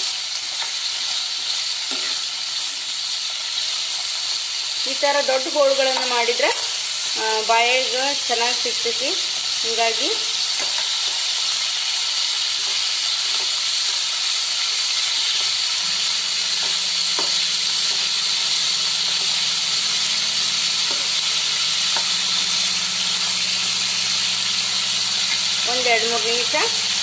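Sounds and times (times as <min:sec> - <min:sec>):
potatoes sizzling in hot oil: 0:00.0 - 0:27.0.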